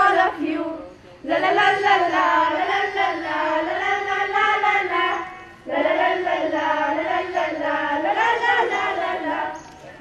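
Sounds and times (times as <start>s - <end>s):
girls singing in unison: 0.0s - 9.7s.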